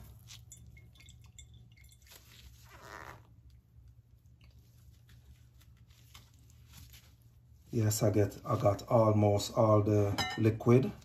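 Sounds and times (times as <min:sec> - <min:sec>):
wet squishing of wrung cloth: 0:00.0 - 0:09.1
low steady hum: 0:00.0 - 0:11.0.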